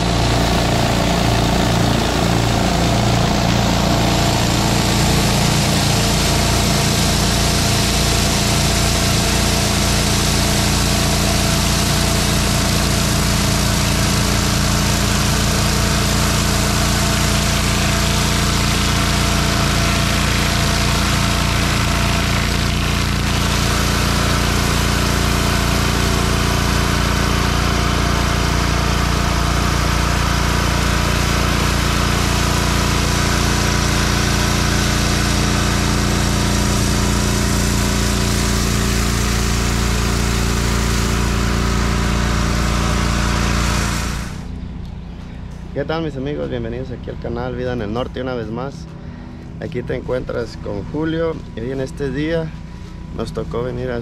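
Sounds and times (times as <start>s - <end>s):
pressure washer engine running: 0.0s - 54.0s.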